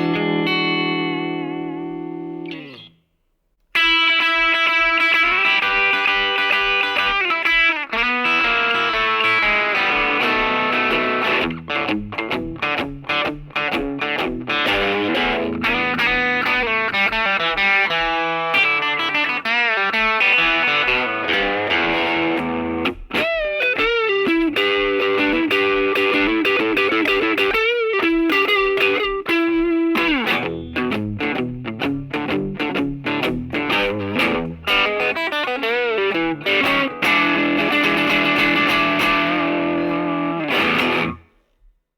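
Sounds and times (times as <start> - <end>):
electric guitar through amplifier: 0.0 - 3.0, 3.7 - 41.5.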